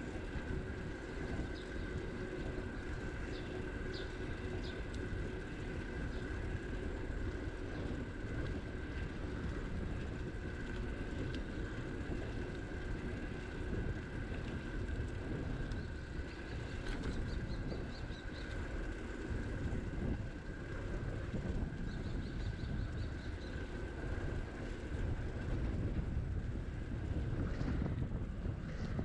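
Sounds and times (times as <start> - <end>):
bicycle tyre rumble: 0.0 - 29.0
faint steady whine: 0.0 - 29.0
wind on microphone: 0.0 - 29.0.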